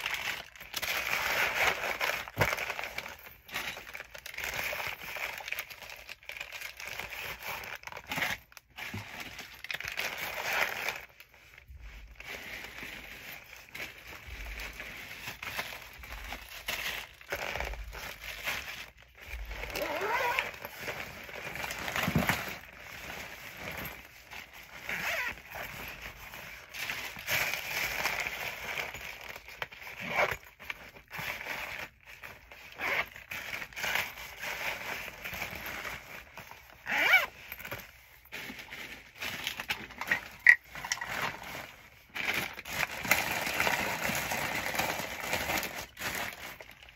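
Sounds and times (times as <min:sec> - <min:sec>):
plastic bags rustling: 0:00.0 - 0:46.9.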